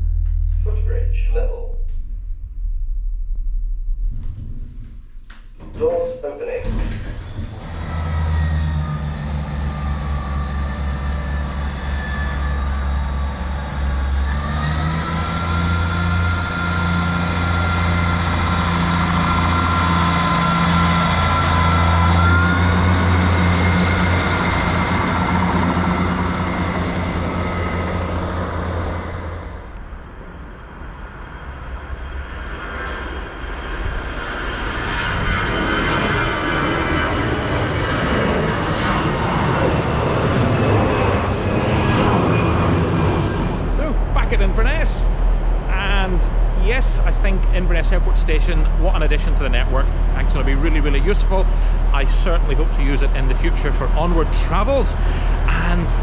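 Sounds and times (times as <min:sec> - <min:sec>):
heavy engine droning with whine: 0:00.0 - 0:56.0.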